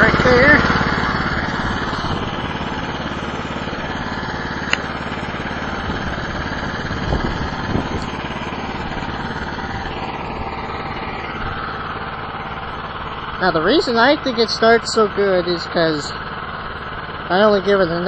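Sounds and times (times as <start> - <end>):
snowblower engine running: 0.0 - 18.0.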